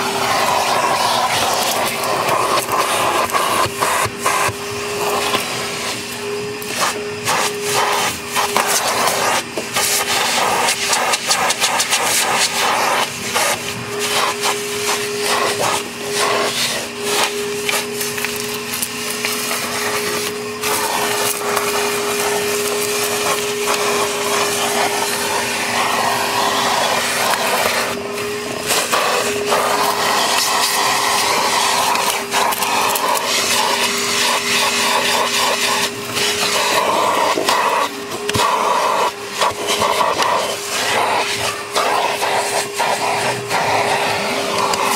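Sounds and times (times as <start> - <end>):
vacuum blower whining: 0.0 - 44.9.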